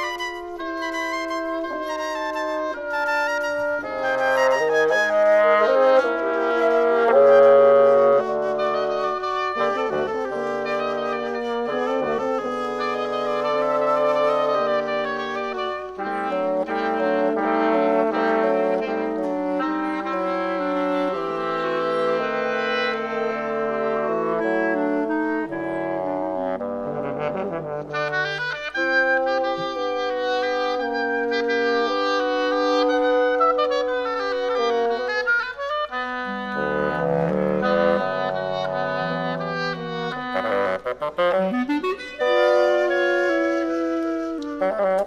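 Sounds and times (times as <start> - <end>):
bassoon: 0.0 - 45.0
clarinet: 0.0 - 45.0
flute: 0.0 - 45.0
french horn: 0.0 - 45.0
oboe: 0.0 - 45.0.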